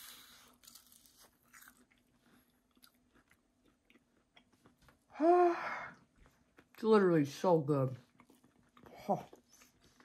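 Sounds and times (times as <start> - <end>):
crunching and chewing food: 0.0 - 5.1, 5.9 - 10.0.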